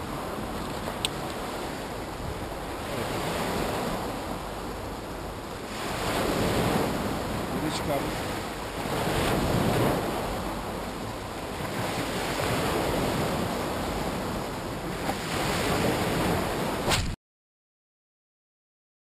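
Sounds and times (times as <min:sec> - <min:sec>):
surf breaking on shore: 0:00.0 - 0:17.2
wind rumbling on microphone: 0:00.0 - 0:17.2.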